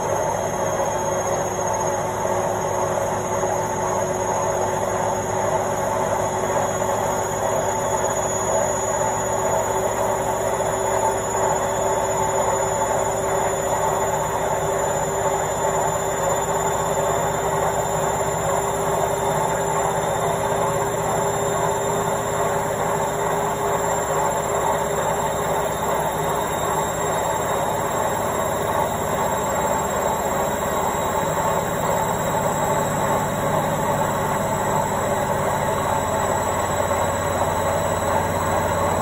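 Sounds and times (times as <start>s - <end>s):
motor whine rising in pitch: 0.0s - 39.0s
washing machine spinning: 0.0s - 39.0s.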